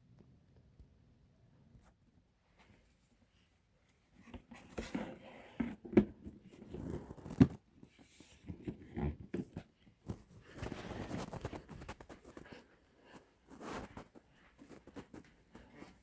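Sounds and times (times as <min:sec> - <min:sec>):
rustling and handling noises: 0:01.7 - 0:16.0.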